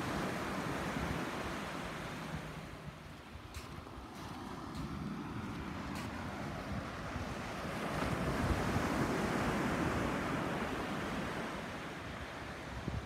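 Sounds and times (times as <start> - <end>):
waves washing onto beach: 0.0 - 13.0
wind buffeting microphone: 0.0 - 13.0.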